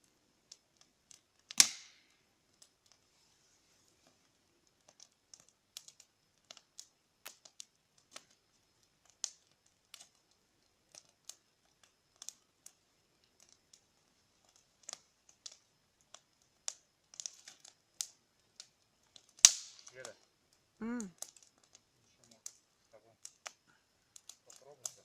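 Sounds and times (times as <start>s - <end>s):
bonfire crackling: 0.0s - 25.0s.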